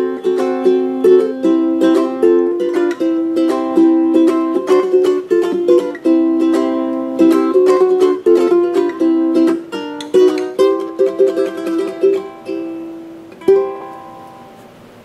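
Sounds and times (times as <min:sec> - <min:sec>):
ukulele plucked notes and chords: 0:00.0 - 0:15.0.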